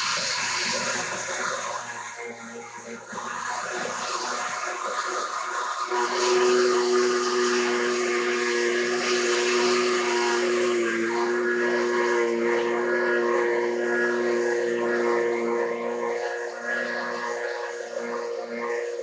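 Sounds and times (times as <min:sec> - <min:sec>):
blender motor running: 0:00.0 - 0:19.0.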